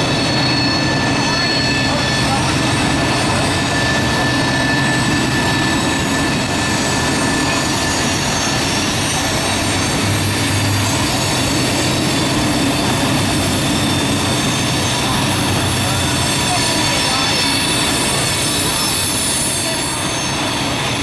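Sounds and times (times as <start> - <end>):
high-pitched wheel squeal: 0.0 - 21.0
train wheels rumbling on rail: 0.0 - 21.0.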